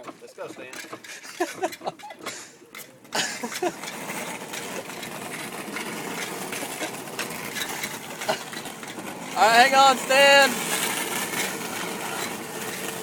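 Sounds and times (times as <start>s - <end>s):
golf cart motor running: 0.0s - 13.0s.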